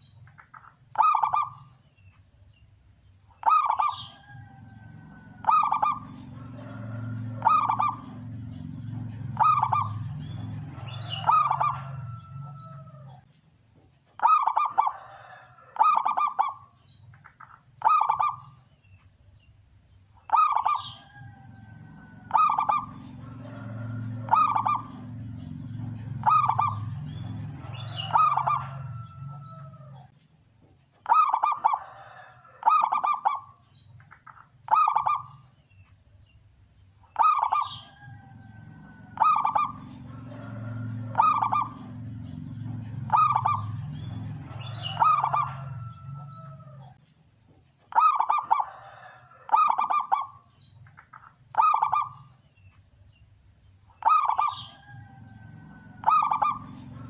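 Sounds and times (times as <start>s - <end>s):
dove cooing: 0.0s - 1.7s, 3.4s - 13.3s, 14.2s - 16.7s, 17.8s - 18.6s, 20.2s - 30.1s, 31.0s - 33.6s, 34.2s - 35.4s, 37.1s - 47.0s, 47.9s - 52.3s, 54.0s - 57.0s.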